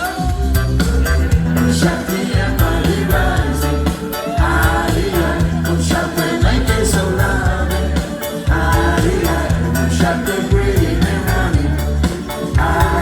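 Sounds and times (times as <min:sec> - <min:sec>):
drum beat: 0:00.0 - 0:13.0
live band playing: 0:00.0 - 0:13.0
people singing: 0:00.0 - 0:13.0
heavy bass line: 0:00.2 - 0:13.0.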